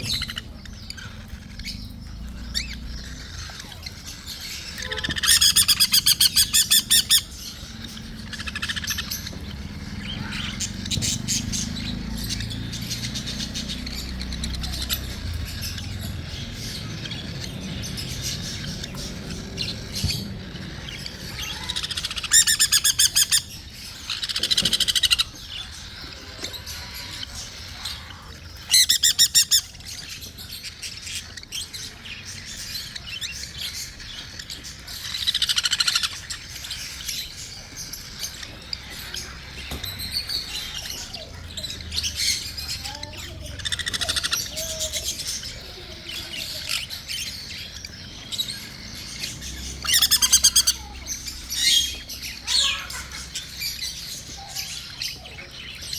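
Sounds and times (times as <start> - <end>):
faint bird chirps: 0.0 - 55.9.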